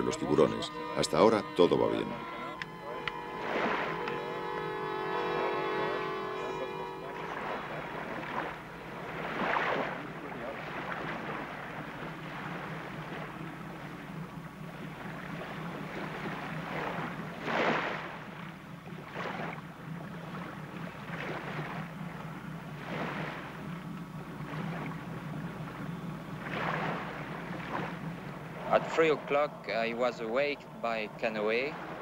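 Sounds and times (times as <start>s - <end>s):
steady low hum: 0.0s - 32.0s
water splashing against hull: 0.0s - 32.0s.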